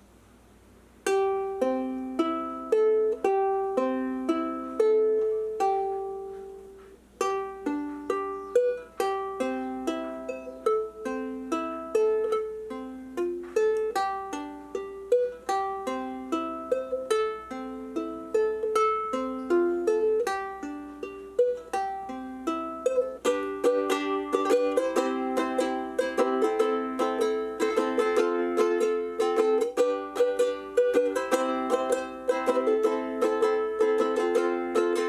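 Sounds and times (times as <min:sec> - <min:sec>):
ukulele fingerpicked arpeggio: 0:01.0 - 0:35.0.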